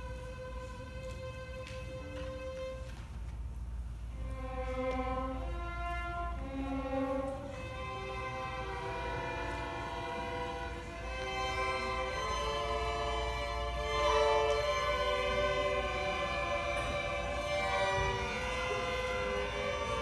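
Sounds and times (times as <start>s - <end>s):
string orchestra playing slow melody: 0.0s - 20.0s.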